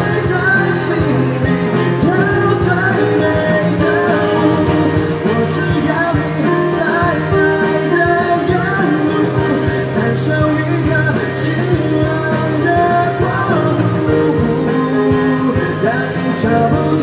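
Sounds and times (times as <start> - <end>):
acoustic guitar: 0.0 - 17.0
electronic keyboard: 0.0 - 17.0
man singing: 0.0 - 17.0.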